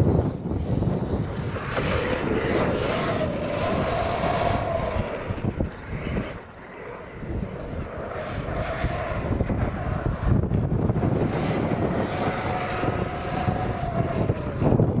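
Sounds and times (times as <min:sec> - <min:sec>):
electric rc car motor whining: 0:00.0 - 0:15.0
wind rumbling on microphone: 0:00.0 - 0:15.0.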